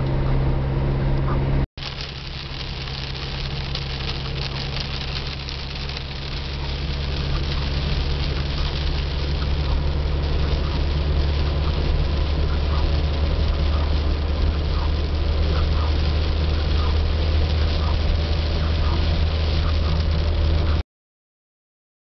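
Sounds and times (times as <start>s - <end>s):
car engine droning: 0.0s - 20.8s
rain and tyre spray hiss: 1.8s - 20.8s.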